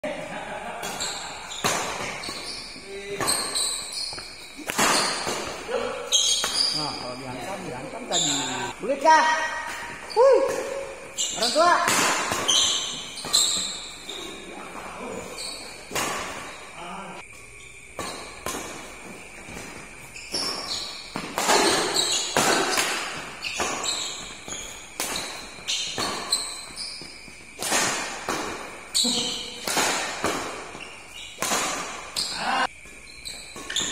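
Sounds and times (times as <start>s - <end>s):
rackets striking shuttlecock: 0.8s - 7.6s, 9.5s - 14.1s, 15.7s - 33.9s
shoes squeaking on court: 0.8s - 33.9s.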